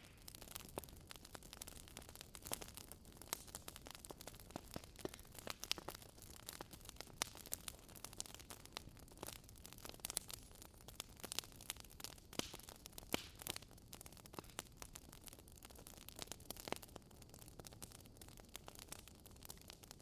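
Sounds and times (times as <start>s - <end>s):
logs crackling in a fireplace: 0.0s - 20.0s.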